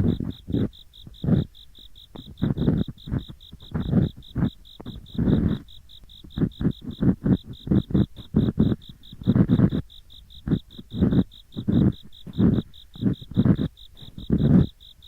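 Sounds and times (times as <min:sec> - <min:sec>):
ear picks scraping: 0:00.0 - 0:14.9
insects chirping: 0:00.0 - 0:15.0.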